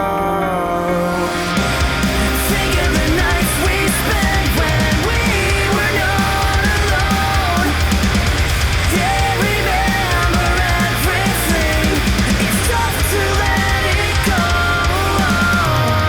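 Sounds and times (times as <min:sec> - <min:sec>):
rock music with drums and guitar: 0:01.0 - 0:16.0.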